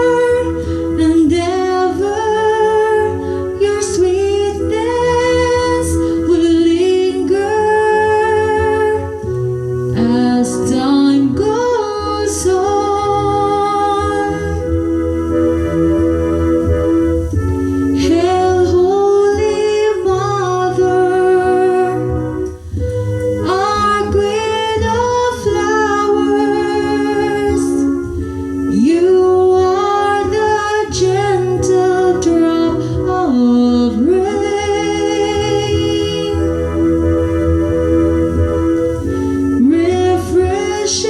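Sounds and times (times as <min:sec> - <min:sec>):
long held chords: 0:00.0 - 0:41.0
person singing melody: 0:00.0 - 0:41.0
steady bass: 0:00.0 - 0:41.0.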